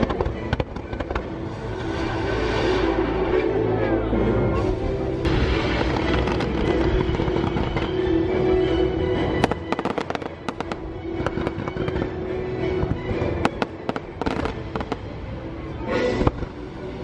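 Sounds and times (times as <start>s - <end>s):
fireworks bangs and crackles: 0.0s - 3.1s, 4.8s - 17.0s
music: 0.0s - 17.0s.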